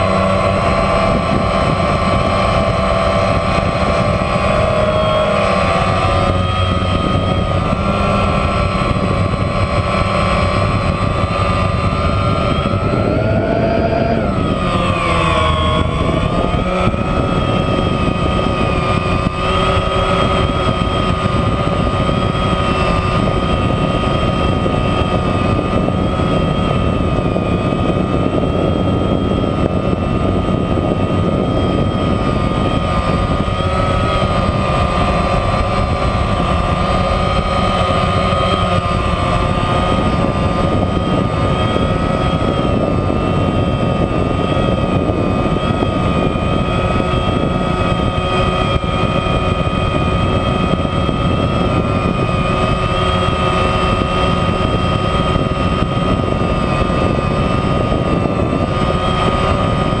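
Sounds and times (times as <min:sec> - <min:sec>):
drone motors whining: 0:00.0 - 1:00.0.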